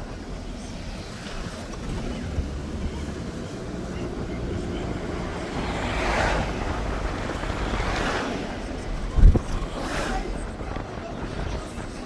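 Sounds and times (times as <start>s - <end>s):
car road and wind noise: 0.0s - 12.0s
vehicles passing whooshes: 0.0s - 12.0s.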